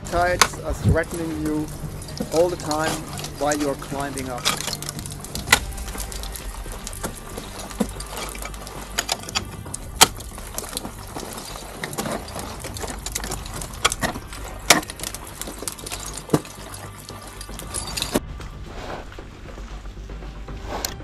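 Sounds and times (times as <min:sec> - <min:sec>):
ice axes striking ice: 0:00.0 - 0:18.3
low rumble: 0:00.0 - 0:21.0.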